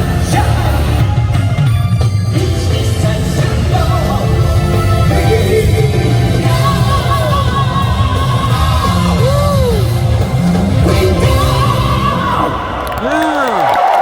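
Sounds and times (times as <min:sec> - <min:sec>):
loud rock band: 0:00.0 - 0:14.0.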